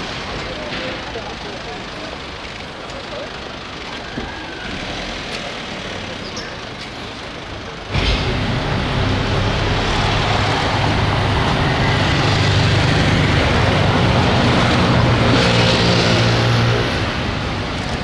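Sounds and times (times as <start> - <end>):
large vehicle passing by: 0.0 - 18.0.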